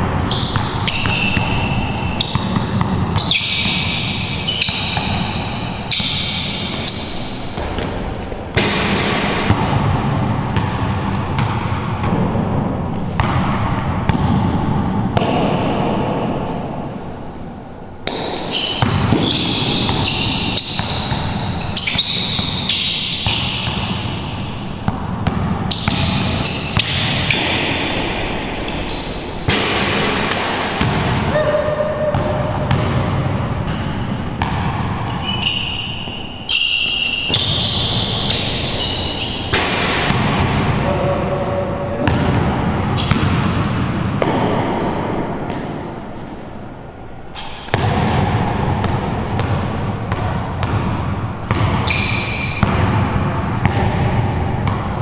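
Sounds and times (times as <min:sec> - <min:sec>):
sneaker squeaks: 0:00.0 - 0:08.6, 0:12.9 - 0:14.8, 0:18.0 - 0:27.7, 0:28.5 - 0:29.5, 0:31.3 - 0:47.9, 0:48.8 - 0:55.0
basketball bouncing on court floor: 0:00.2 - 0:16.6, 0:18.0 - 0:40.8, 0:41.9 - 0:46.0, 0:47.4 - 0:55.0.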